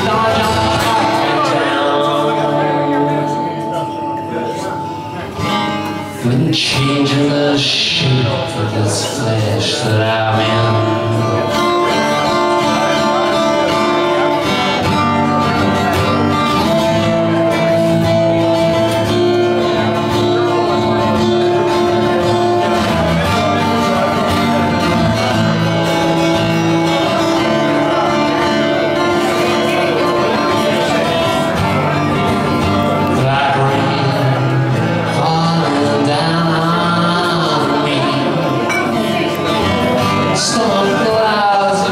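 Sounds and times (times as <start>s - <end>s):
acoustic guitar chords: 0.0s - 41.9s.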